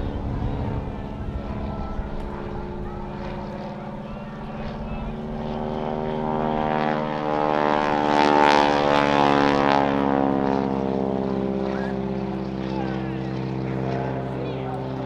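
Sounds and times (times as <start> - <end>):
biplane engine drone: 0.0 - 15.0.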